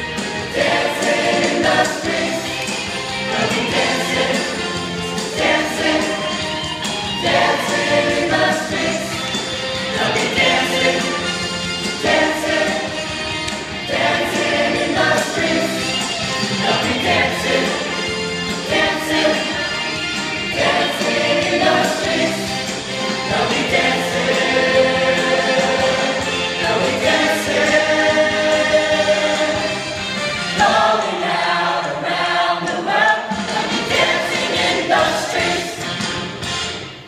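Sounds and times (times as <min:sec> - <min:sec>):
choir of mixed voices singing: 0:00.4 - 0:36.4.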